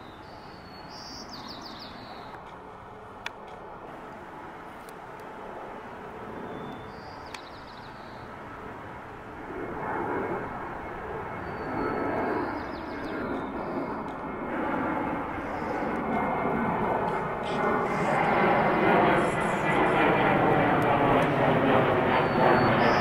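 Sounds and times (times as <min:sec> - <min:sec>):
jet engines roaring overhead: 0:00.0 - 0:23.0.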